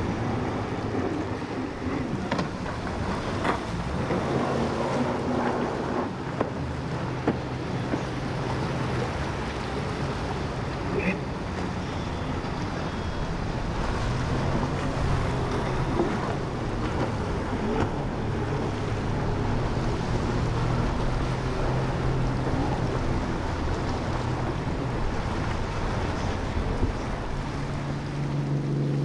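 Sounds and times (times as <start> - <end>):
boat engines humming: 0.0 - 29.0
water rushing: 0.0 - 29.0.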